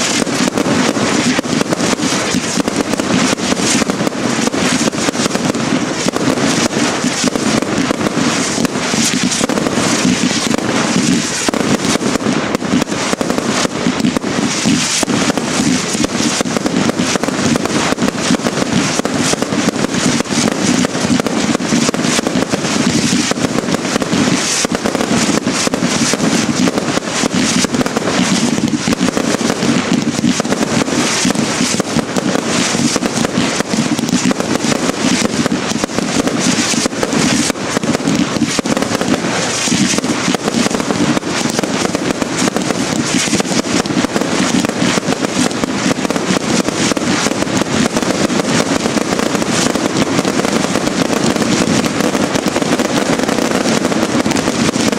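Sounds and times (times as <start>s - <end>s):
fireworks launches and bursts: 0.0s - 54.9s.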